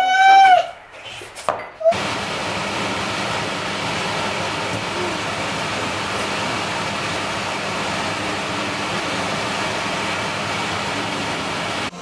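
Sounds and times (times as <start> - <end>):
fan rushing noise: 0.8 - 12.0.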